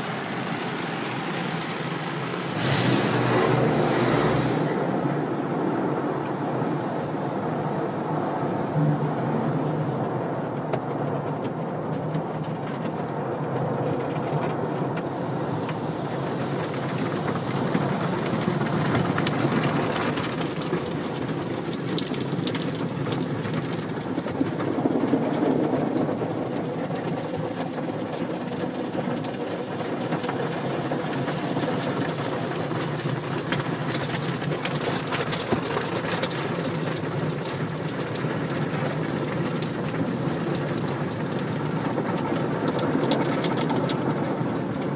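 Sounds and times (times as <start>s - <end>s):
car wash machinery rumbling: 0.0s - 44.9s.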